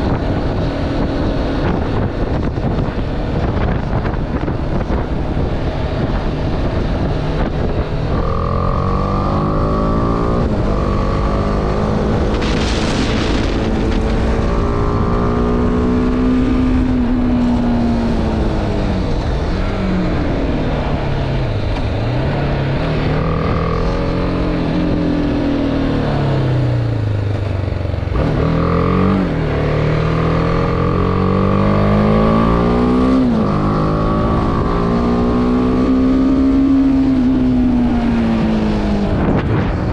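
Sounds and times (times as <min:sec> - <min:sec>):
motorcycle engine revving: 0:00.0 - 0:39.9
wind and road rumble: 0:00.0 - 0:39.9.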